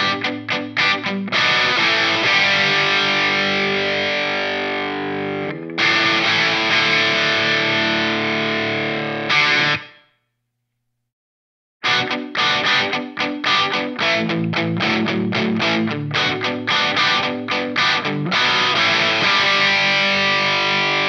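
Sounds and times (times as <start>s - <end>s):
overdriven electric guitar chords: 0.0s - 10.0s, 11.8s - 21.0s.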